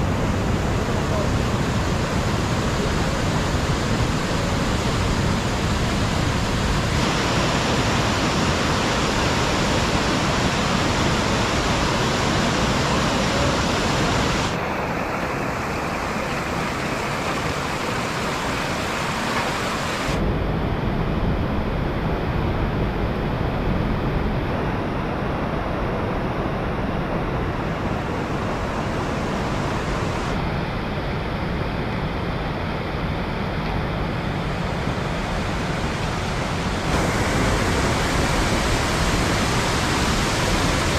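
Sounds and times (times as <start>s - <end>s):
stream rushing: 0.0s - 20.6s, 22.0s - 40.9s.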